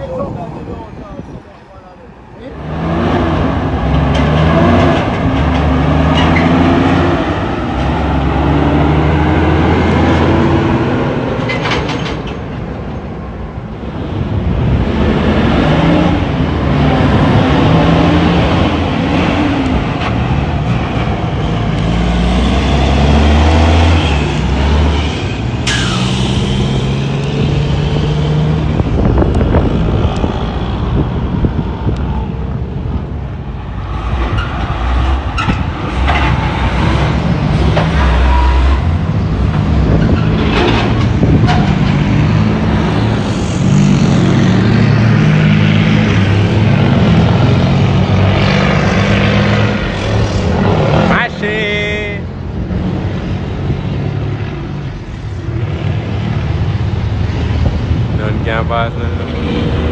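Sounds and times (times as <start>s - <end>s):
diesel truck engine under load: 2.5s - 51.6s.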